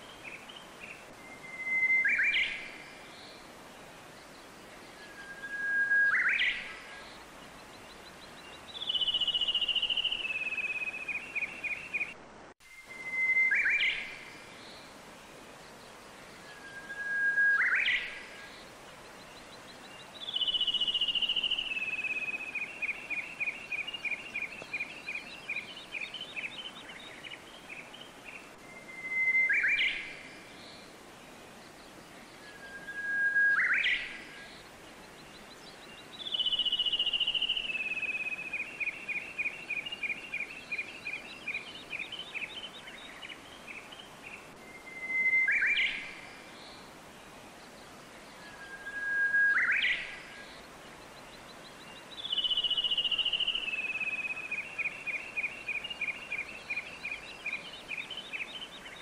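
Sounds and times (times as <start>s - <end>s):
flowing water rushing: 0.0s - 59.0s
songbird singing: 0.0s - 59.0s.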